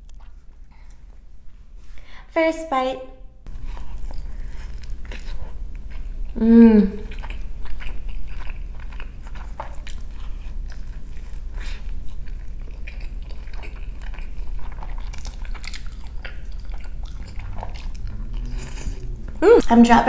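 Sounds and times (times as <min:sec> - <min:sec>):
person chewing food: 0:00.0 - 0:01.3, 0:03.5 - 0:19.8.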